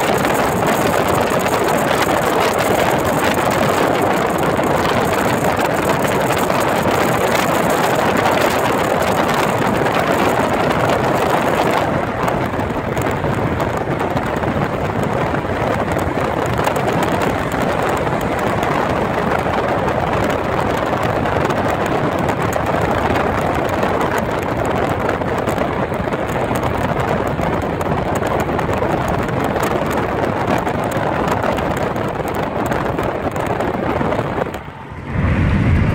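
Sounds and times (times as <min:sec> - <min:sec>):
car tyre and wind noise: 0:00.0 - 0:35.9.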